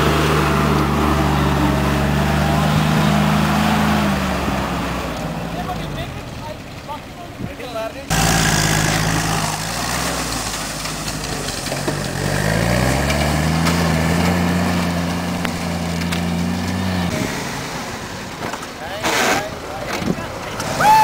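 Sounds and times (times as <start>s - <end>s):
jeep engine running: 0.0s - 21.0s.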